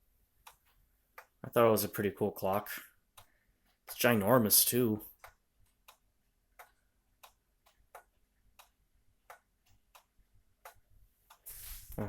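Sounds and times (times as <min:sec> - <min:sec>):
pendulum clock ticking: 0:00.0 - 0:11.5.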